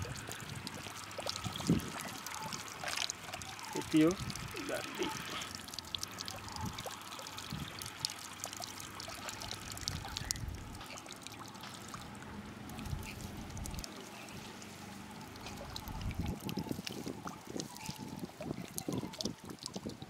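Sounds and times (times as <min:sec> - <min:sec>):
water trickling from bottle holes: 0:00.0 - 0:20.0.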